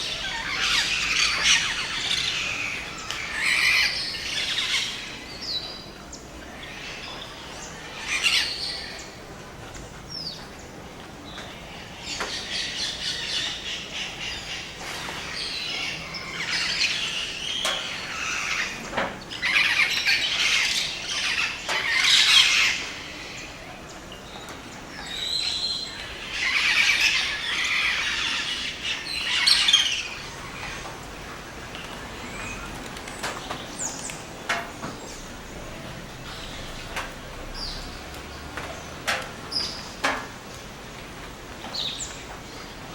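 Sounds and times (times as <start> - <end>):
birds calling and chattering: 0.0 - 42.9.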